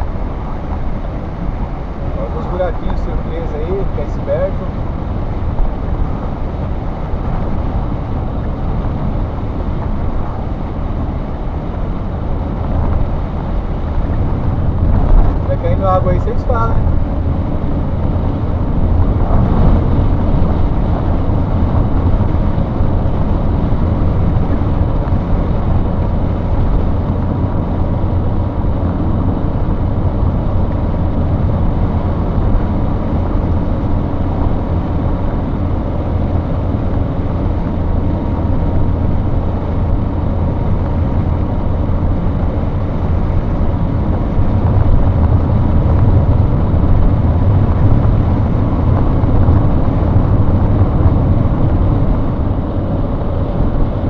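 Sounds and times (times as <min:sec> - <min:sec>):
low engine rumble: 0:00.0 - 0:54.0
tyres on wet road: 0:00.0 - 0:54.0.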